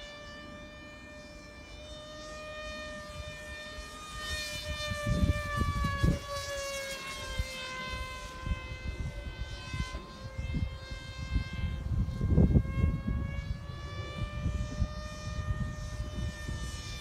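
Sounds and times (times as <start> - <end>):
electric motor and propeller whining: 0.0 - 17.0
wind rumbling on microphone: 2.2 - 17.0.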